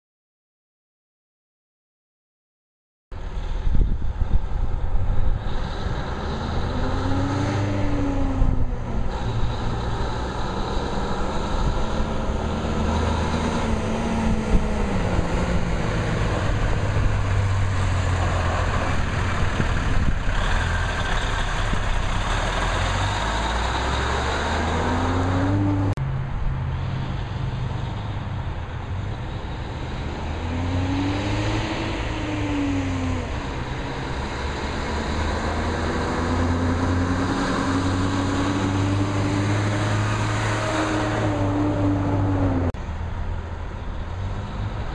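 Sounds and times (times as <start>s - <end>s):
diesel truck engine running: 3.4s - 40.7s.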